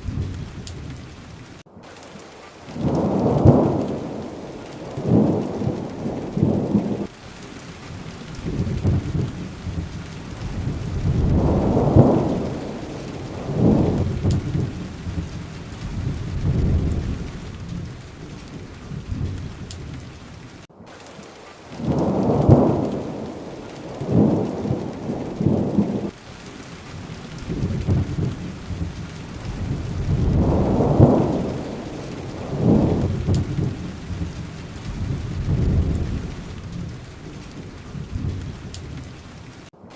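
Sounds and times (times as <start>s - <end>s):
low thunder rolling: 0.0s - 1.6s, 2.7s - 7.2s, 7.9s - 20.6s, 21.8s - 39.7s
steady rain: 0.0s - 39.9s.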